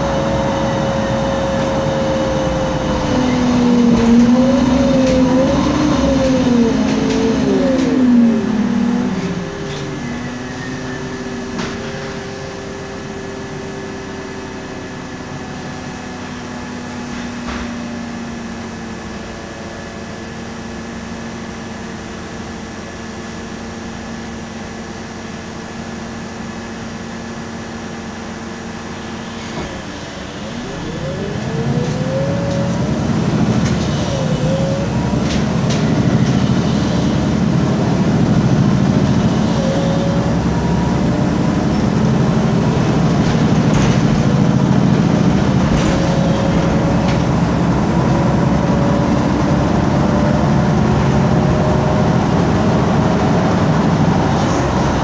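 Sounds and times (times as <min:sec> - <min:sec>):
bus engine idling and pulling away: 0:00.0 - 0:55.0
rising engine whine: 0:00.0 - 0:55.0.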